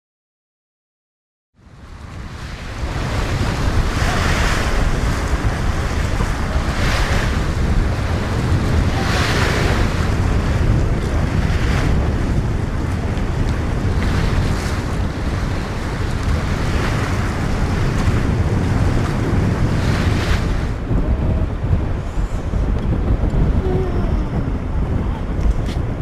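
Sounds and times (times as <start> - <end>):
waves washing in: 1.6 - 26.0
wind buffeting microphone: 1.6 - 26.0.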